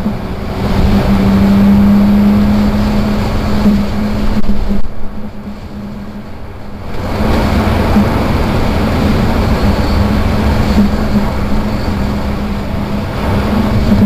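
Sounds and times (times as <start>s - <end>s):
car engine pulling: 0.0s - 14.0s
tyre and road noise: 0.0s - 14.0s.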